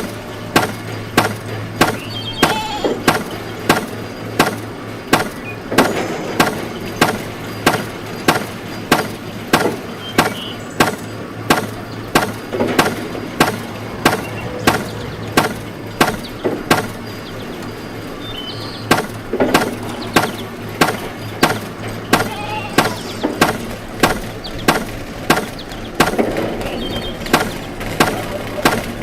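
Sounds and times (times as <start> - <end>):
sharp chopping knocks: 0.0 - 17.0, 18.9 - 29.0
steady low hum: 0.0 - 29.0.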